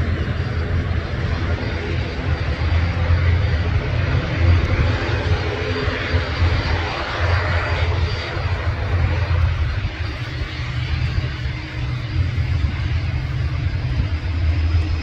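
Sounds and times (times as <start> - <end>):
airliner engines passing: 0.0 - 15.0.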